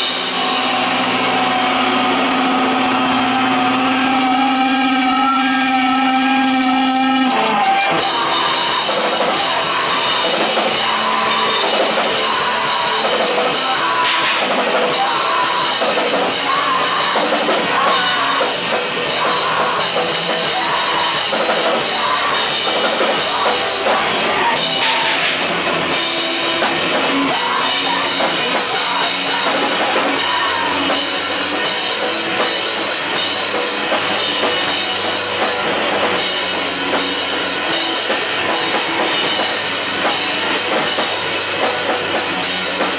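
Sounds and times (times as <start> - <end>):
drum kit: 0.0 - 42.9
electric guitars: 0.0 - 42.9
live rock band: 0.0 - 42.9.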